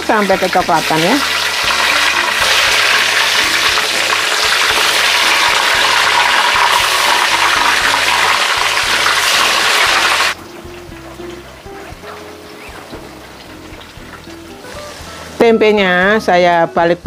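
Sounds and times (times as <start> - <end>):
tempeh sizzling in hot oil: 0.0 - 17.0.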